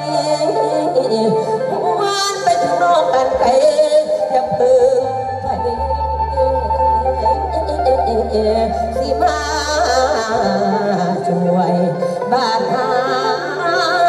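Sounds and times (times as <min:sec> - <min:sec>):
live band over loudspeakers: 0:00.0 - 0:14.0.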